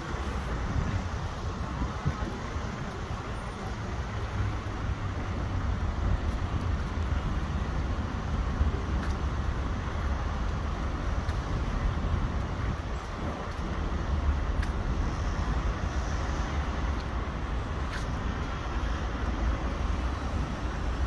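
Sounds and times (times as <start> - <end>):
city background rumble: 0.0 - 21.0.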